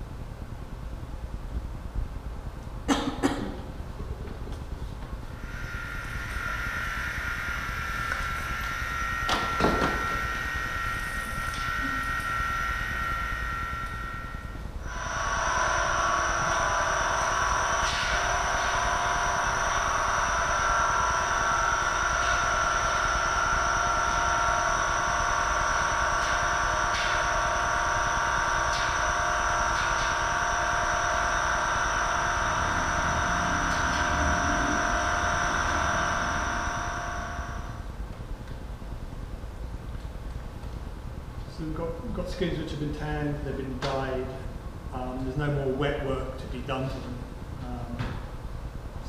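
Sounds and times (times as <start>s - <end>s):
factory machinery whining: 0.0s - 49.0s.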